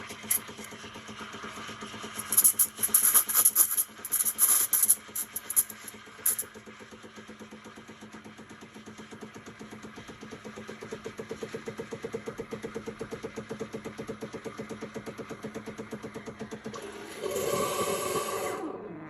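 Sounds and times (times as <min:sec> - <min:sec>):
espresso machine pulsing hum: 0:00.0 - 0:19.0.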